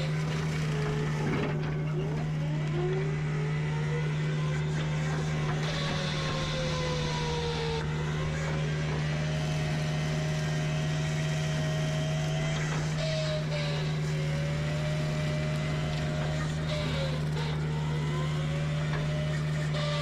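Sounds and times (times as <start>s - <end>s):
forestry mulcher engine hum: 0.0s - 20.0s
high mechanical whine: 0.0s - 20.0s.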